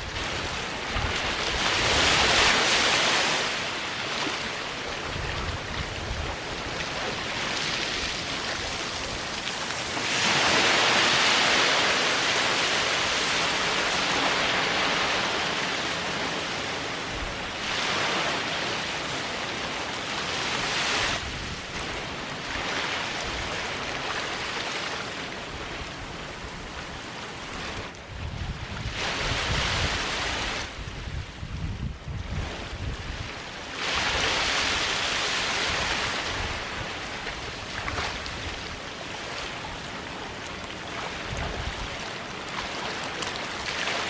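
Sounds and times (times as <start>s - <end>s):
waves washing onto beach: 0.0s - 44.0s.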